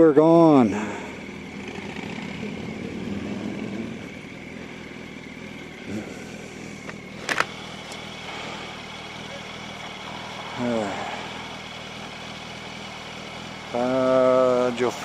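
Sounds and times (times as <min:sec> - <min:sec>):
motorcycle engine running steadily: 0:00.0 - 0:15.0
road and wind noise: 0:00.0 - 0:15.0.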